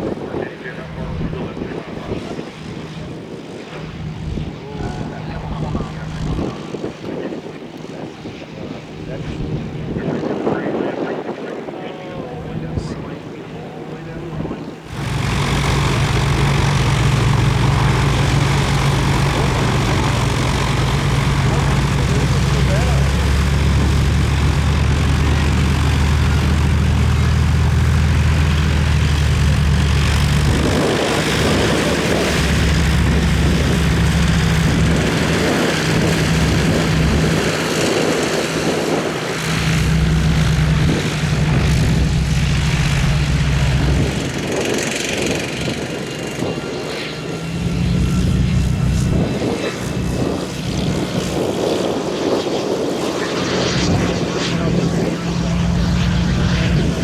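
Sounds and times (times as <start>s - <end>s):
propeller airplane engine droning: 0.0s - 57.0s
wind buffeting microphone: 0.0s - 57.0s.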